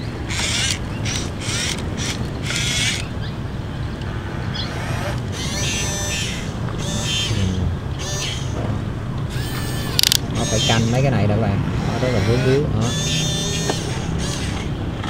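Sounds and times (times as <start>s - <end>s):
small electric motors whining: 0.0s - 3.1s, 4.1s - 8.6s, 9.3s - 11.1s, 11.7s - 14.8s.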